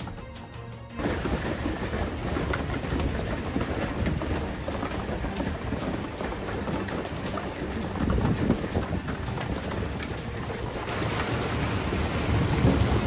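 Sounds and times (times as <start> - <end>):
rain falling: 1.0 - 13.0
wind rumble on microphone: 1.0 - 13.0.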